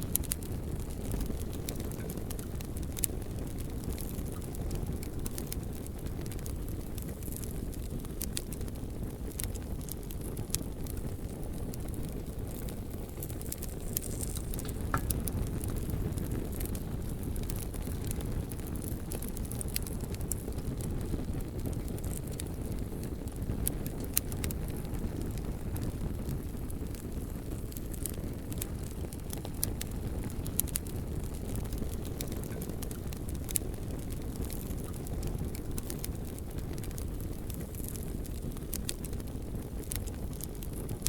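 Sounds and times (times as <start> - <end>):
logs crackling and popping: 0.0 - 41.0
low rumble of flames: 0.0 - 41.0.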